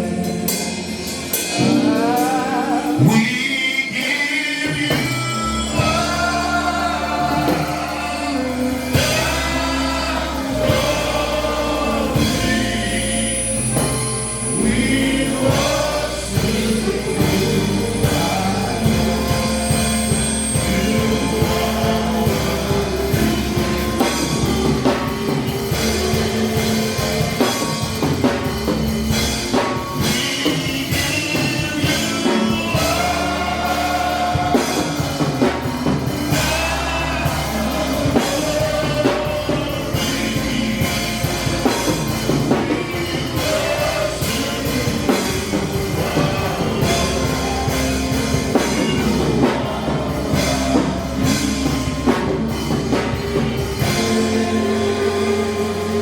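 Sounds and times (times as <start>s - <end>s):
gospel band playing: 0.0s - 56.0s
people singing: 0.0s - 56.0s.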